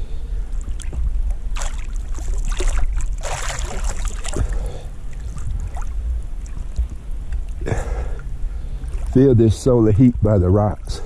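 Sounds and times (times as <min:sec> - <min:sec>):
steady low rumble: 0:00.0 - 0:11.0
water splashing and lapping: 0:00.5 - 0:11.0.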